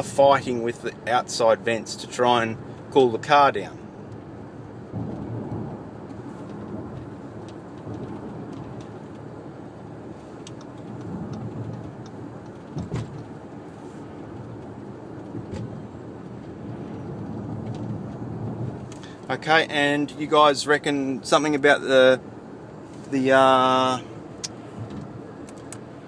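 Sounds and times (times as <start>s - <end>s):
car cabin road and engine noise: 0.0s - 26.0s.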